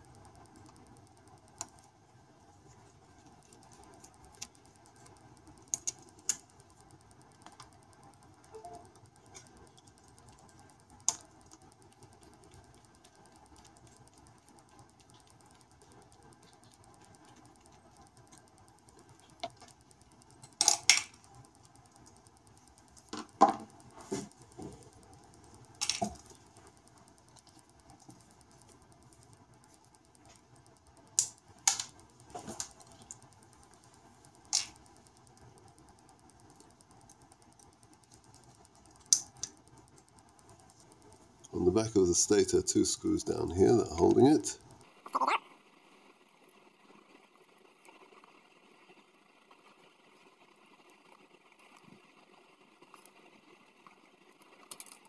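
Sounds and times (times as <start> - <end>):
faint room noise: 0.0 - 55.0.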